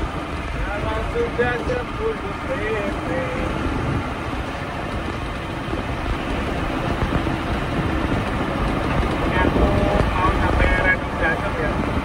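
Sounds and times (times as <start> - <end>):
diesel truck engine running: 0.0 - 12.0
road and cab noise: 0.0 - 12.0.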